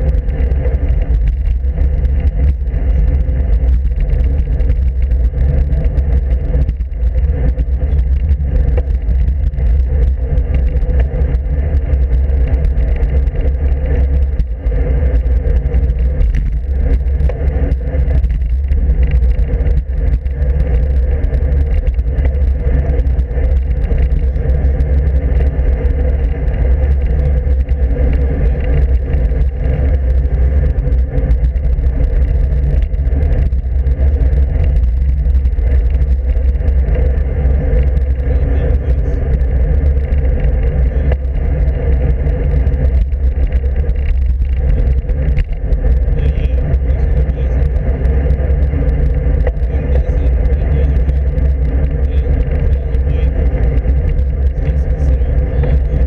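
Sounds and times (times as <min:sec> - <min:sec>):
road vibration rumble: 0:00.0 - 0:56.0.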